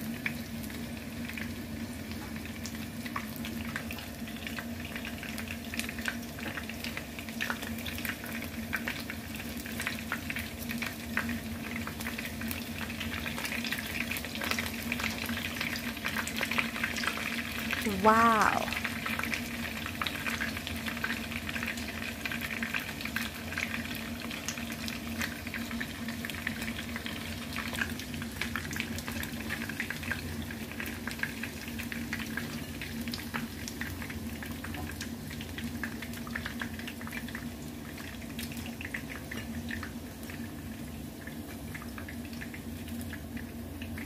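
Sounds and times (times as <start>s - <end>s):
chicken frying in hot oil: 0.0s - 44.0s.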